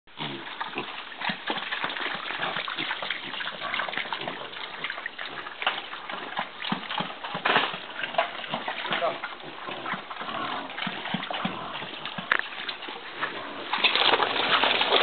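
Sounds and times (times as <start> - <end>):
pigs grunting in a pen: 0.1 - 15.0
wet sloshing: 0.2 - 15.0.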